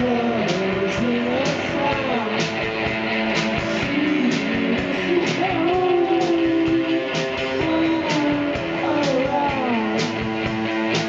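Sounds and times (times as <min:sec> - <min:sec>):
drum kit beat: 0:00.0 - 0:11.0
electric guitar: 0:00.0 - 0:11.0
live rock band playing: 0:00.0 - 0:11.0.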